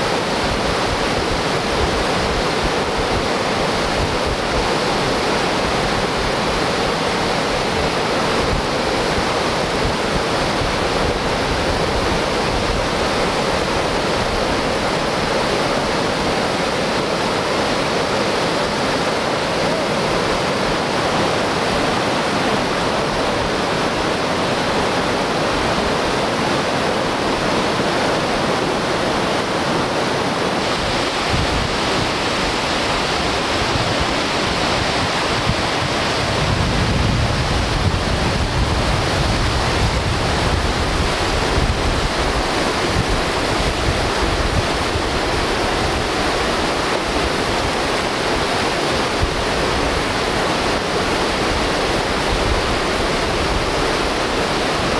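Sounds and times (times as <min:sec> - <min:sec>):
whitewater rapids roaring: 0:00.0 - 0:54.9.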